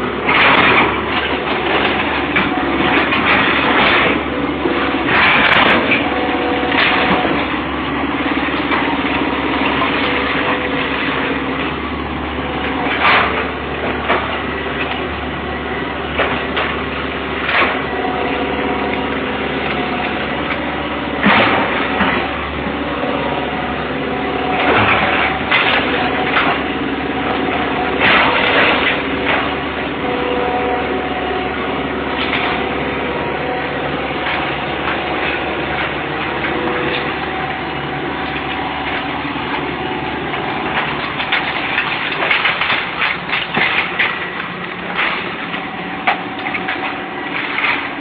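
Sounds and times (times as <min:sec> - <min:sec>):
excavator diesel engine running: 0:00.0 - 0:48.0
breaking wood and falling rubble: 0:00.2 - 0:48.0.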